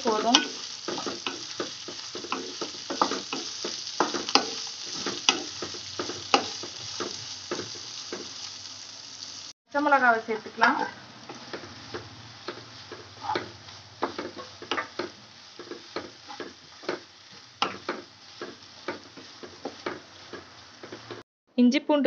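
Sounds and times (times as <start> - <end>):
faint sizzle of frying: 0.0 - 21.2
wooden spatula tapping and scraping pan: 0.1 - 8.4, 10.6 - 21.2.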